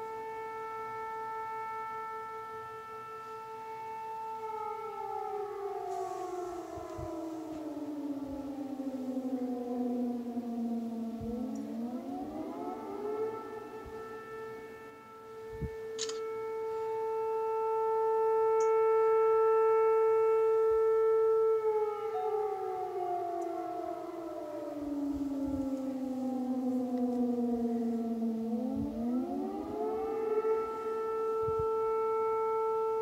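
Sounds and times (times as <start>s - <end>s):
air raid siren wailing: 0.0s - 33.0s.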